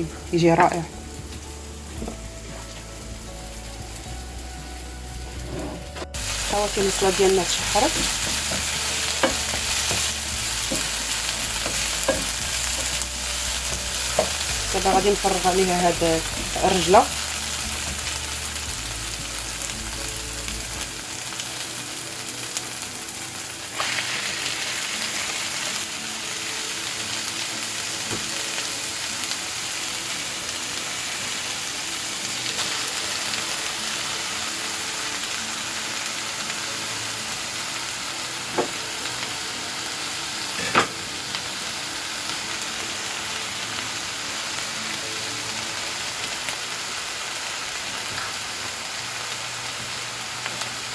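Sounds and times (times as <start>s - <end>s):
greens sizzling in a pan: 0.0s - 5.6s, 6.2s - 50.9s.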